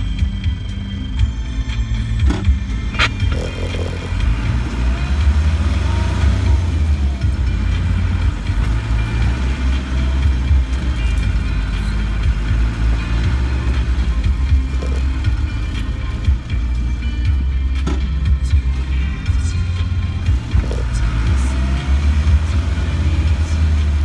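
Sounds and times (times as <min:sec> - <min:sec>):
vehicle engine low drone: 0:00.0 - 0:24.0.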